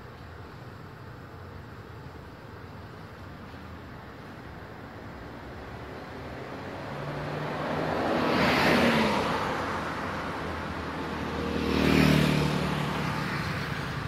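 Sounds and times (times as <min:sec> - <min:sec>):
vehicles driving past: 0:00.0 - 0:14.0.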